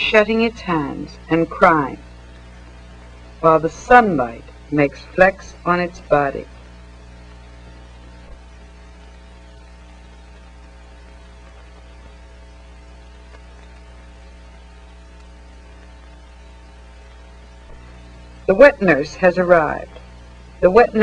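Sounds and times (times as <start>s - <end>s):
electrical mains hum: 0.0s - 21.0s
recording hiss: 0.0s - 21.0s.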